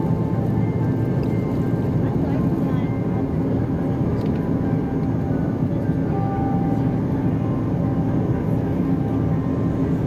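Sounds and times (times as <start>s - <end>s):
aircraft cabin engine drone: 0.0s - 10.0s.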